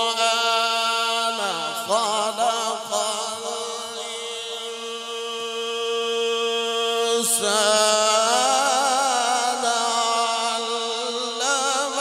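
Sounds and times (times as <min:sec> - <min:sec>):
man chanting melodic recitation: 0:00.0 - 0:12.0.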